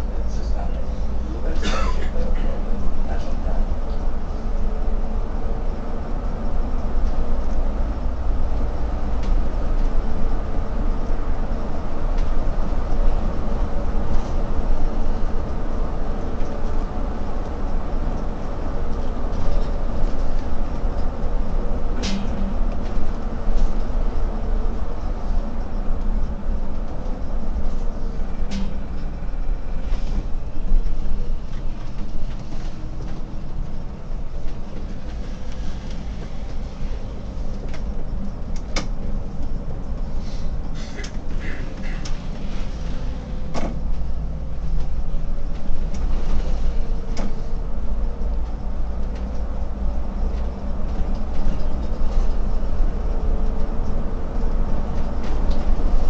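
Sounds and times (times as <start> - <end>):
bus engine rumbling: 0.0 - 56.0.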